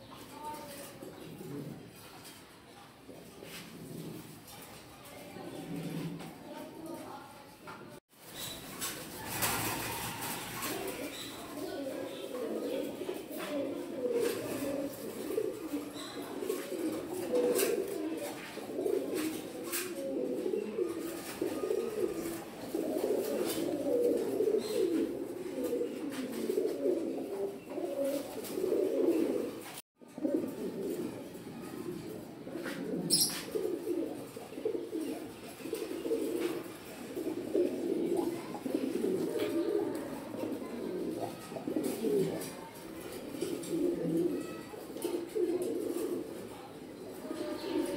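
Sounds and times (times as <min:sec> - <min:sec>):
pigeons cooing: 0:00.0 - 0:02.1, 0:03.0 - 0:07.1, 0:08.3 - 0:47.9.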